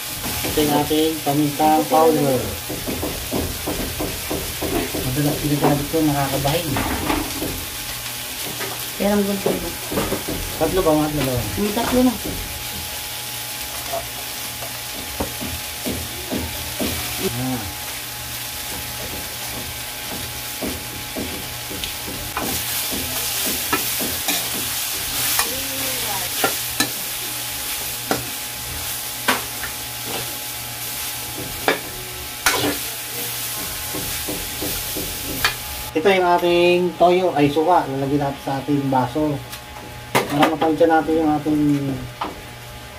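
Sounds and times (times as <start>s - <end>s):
meat and beans sizzling in a wok: 0.0s - 42.9s.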